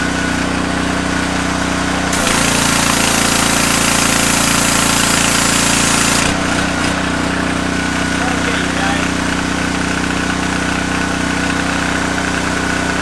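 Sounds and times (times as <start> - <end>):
pressure washer engine running: 0.0 - 13.0
high-pressure water hissing: 2.1 - 13.0.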